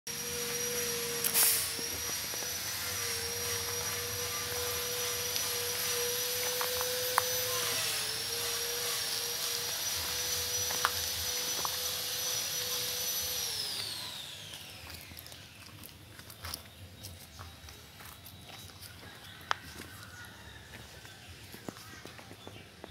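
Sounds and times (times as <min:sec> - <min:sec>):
electric motor whining: 0:00.1 - 0:22.3.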